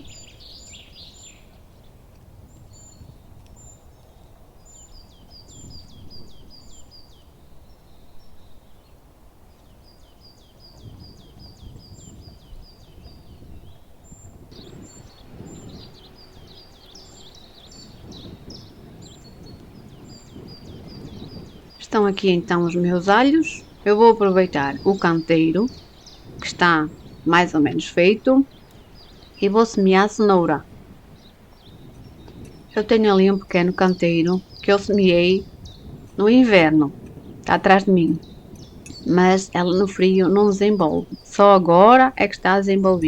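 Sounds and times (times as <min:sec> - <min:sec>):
small birds chirping: 0:00.0 - 0:43.0
wind rumbling on microphone: 0:00.0 - 0:43.0.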